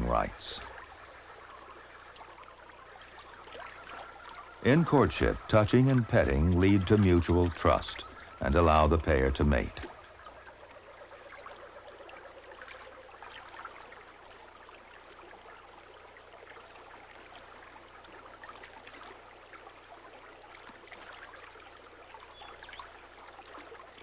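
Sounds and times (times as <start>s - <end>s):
small water splashes: 0.0s - 8.5s, 9.6s - 24.0s
river water trickling: 0.0s - 24.0s.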